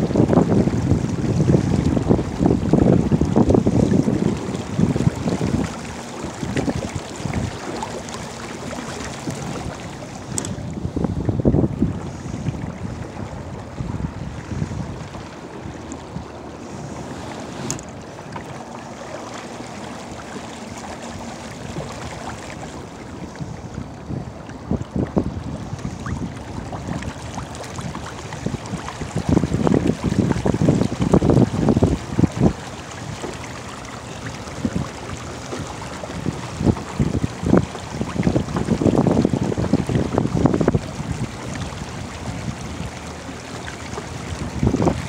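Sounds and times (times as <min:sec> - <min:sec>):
water splashing along kayak: 0:00.0 - 0:45.0
wind buffeting microphone: 0:00.0 - 0:45.0.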